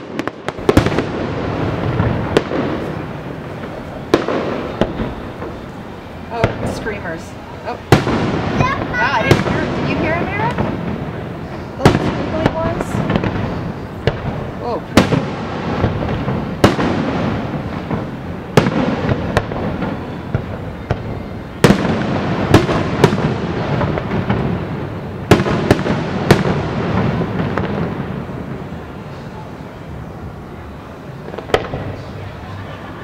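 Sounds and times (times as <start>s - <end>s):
fireworks booming: 0.0s - 33.0s
rolling rumble of echo: 0.0s - 33.0s.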